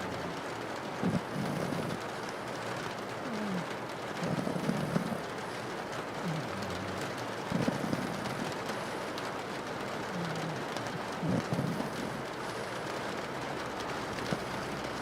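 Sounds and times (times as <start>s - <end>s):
dog snoring: 0.0s - 2.6s, 3.2s - 13.2s, 13.8s - 15.0s
rain on a window: 0.0s - 15.0s.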